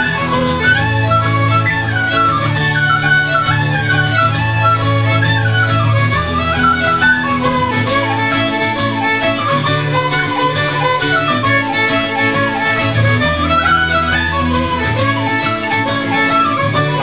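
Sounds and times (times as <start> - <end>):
acoustic guitar: 0.0 - 17.0
fiddles playing folk tune: 0.0 - 17.0.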